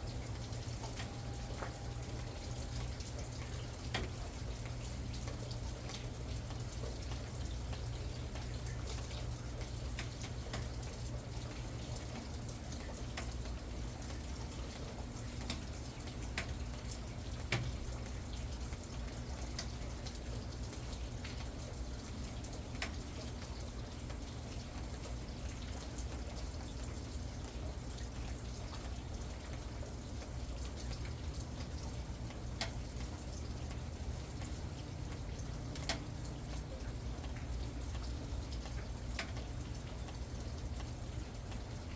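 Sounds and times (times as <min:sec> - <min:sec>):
rain drops tapping: 0:00.0 - 0:41.9.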